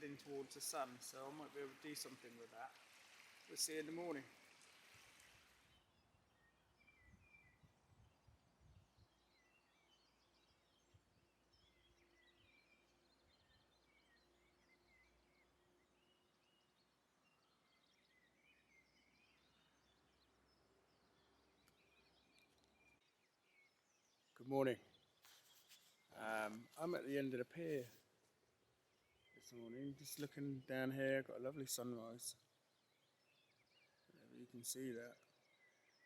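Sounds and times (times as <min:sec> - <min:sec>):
faint birdsong chirps: 0:00.0 - 0:36.0.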